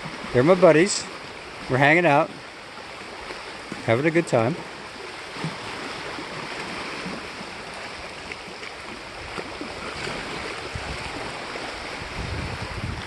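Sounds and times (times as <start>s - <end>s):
waves washing against rocky shore: 0.0s - 13.0s.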